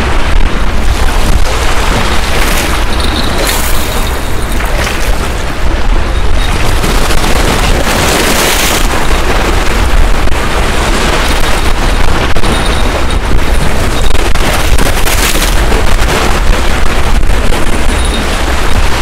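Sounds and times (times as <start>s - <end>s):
sea water washing over rocks: 0.0s - 19.0s
wind buffeting microphone: 0.0s - 19.0s.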